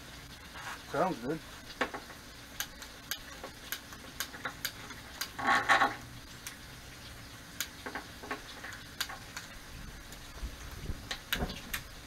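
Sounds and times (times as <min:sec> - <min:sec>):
gas burner rush: 0:00.0 - 0:12.0.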